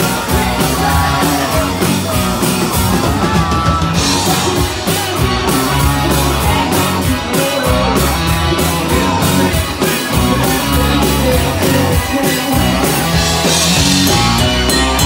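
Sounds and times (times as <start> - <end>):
person singing: 0.0 - 14.8
live rock band playing: 0.0 - 15.0.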